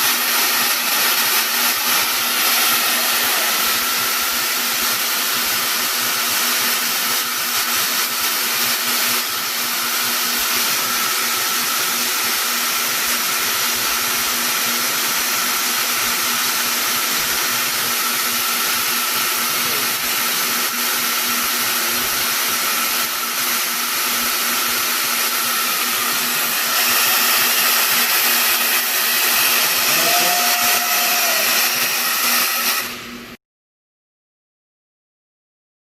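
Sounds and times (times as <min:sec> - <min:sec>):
laser welding machine hissing: 0:00.0 - 0:33.3.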